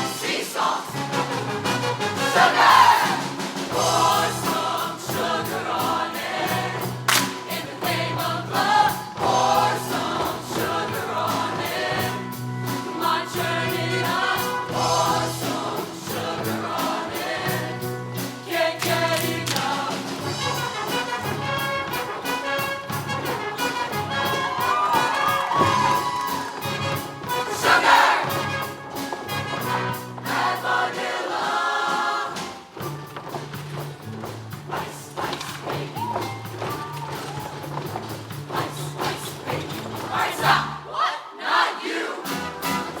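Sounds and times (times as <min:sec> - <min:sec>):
choir singing: 0:00.0 - 0:32.8, 0:34.7 - 0:37.3, 0:38.3 - 0:43.0
drums keeping a steady beat: 0:00.0 - 0:40.8, 0:42.2 - 0:43.0.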